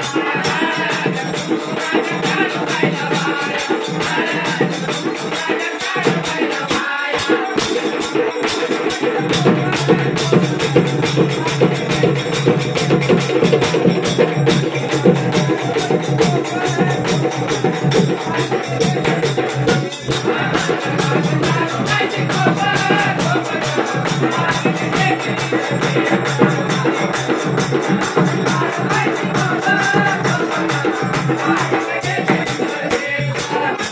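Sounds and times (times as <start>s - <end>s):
double-headed drum beating: 0.0s - 33.9s
hand percussion: 0.0s - 33.9s
person singing: 0.0s - 33.9s.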